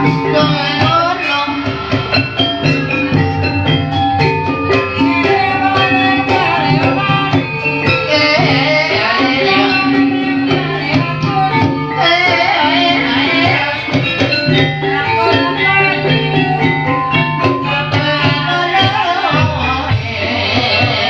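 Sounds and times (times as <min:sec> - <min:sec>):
gamelan keyed instruments ringing: 0:00.0 - 0:21.0
person singing: 0:00.0 - 0:21.0.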